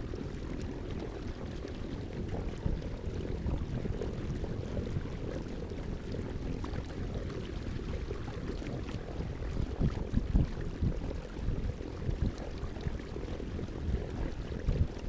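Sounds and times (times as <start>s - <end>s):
small water splashes: 0.0s - 15.0s
water washing around kayak: 0.0s - 15.0s
wind on microphone: 0.0s - 15.0s.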